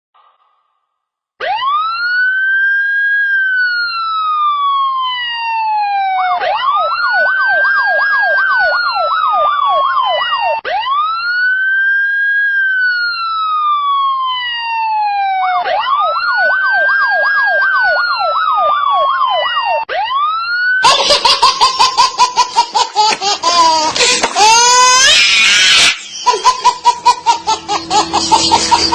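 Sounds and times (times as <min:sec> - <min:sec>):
rapidly pulsing siren: 0:01.4 - 0:22.8, 0:24.6 - 0:28.9
siren wailing and yelping: 0:01.4 - 0:28.9.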